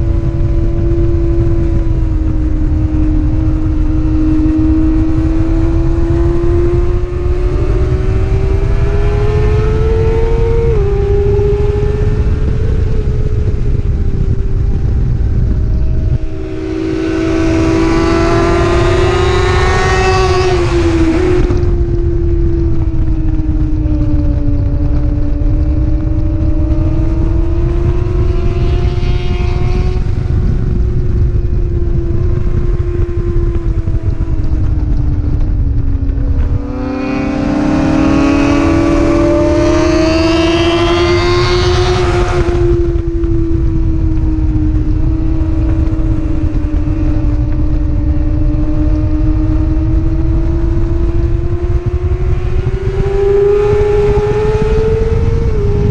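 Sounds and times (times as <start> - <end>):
racing motorcycle engine revving: 0.0 - 55.9
wind rumble: 0.0 - 55.9.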